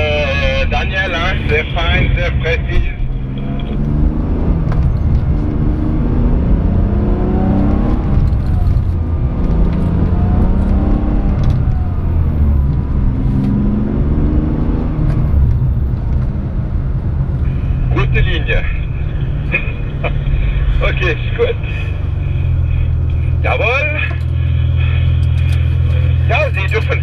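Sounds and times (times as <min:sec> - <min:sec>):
car engine: 0:00.0 - 0:27.0
road noise inside car: 0:00.0 - 0:27.0.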